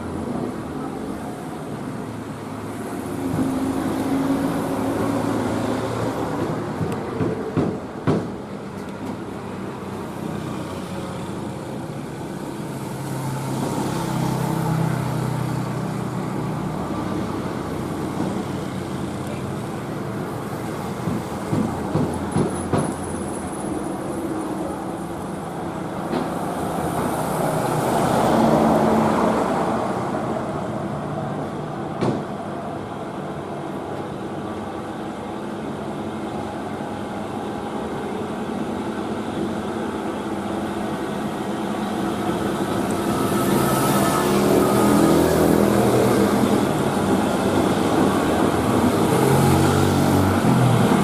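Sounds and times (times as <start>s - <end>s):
passing traffic: 0.0s - 51.0s.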